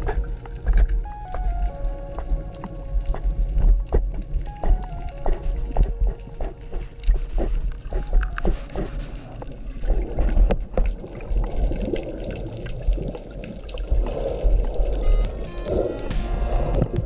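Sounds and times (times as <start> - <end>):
water gurgling and sloshing: 0.0 - 17.0.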